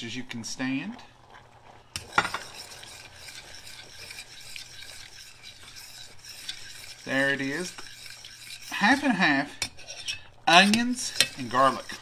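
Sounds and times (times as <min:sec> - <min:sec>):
metal spoon stirring in saucepan: 0:00.6 - 0:12.0.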